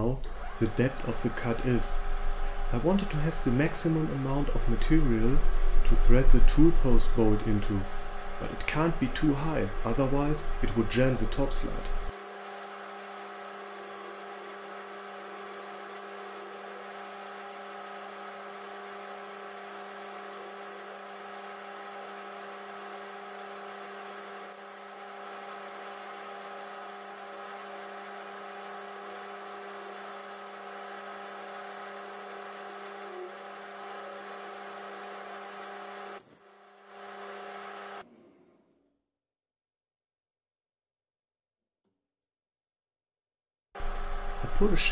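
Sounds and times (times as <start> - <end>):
metal lathe humming: 0.0 - 38.1, 43.8 - 44.9.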